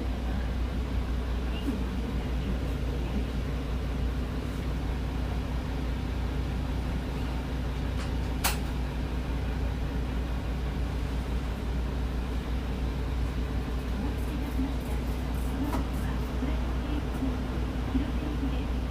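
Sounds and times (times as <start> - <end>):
bus diesel engine rumble: 0.0 - 18.9.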